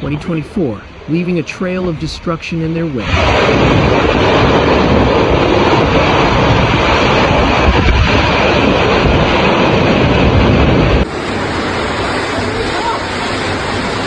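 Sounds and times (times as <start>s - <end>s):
deep unsteady rumble: 0.0s - 14.0s
tornado wind roaring: 0.0s - 14.0s.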